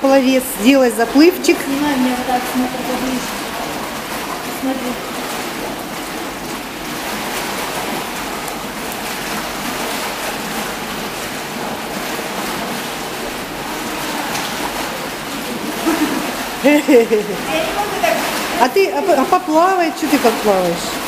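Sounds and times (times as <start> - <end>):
pool water lapping and splashing: 0.0 - 21.0.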